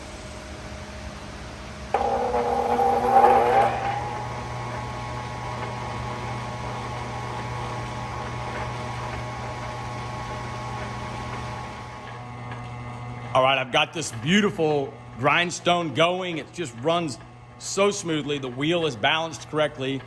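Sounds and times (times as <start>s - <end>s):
grindstone motor humming: 1.9s - 20.0s.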